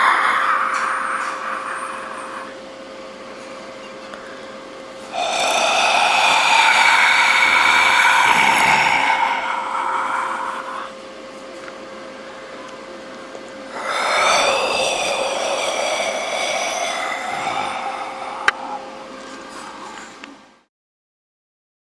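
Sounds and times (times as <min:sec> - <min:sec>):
ghostly breathing: 0:00.0 - 0:03.4, 0:04.1 - 0:11.2, 0:12.0 - 0:20.4.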